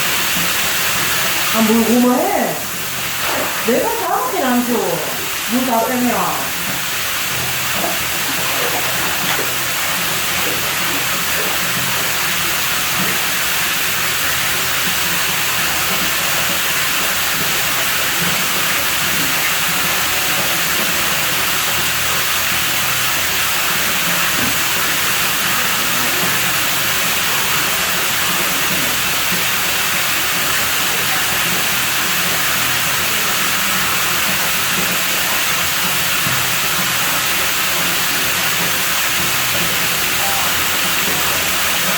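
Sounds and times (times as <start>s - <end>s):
water running: 0.0s - 41.9s.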